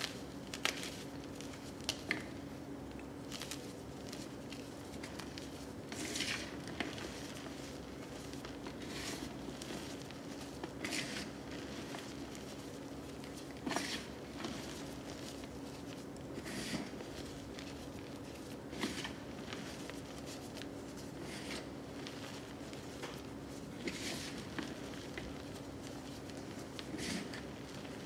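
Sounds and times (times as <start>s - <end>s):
faint steady hum: 0.0s - 28.0s
hands crumbling chalk: 0.0s - 28.0s.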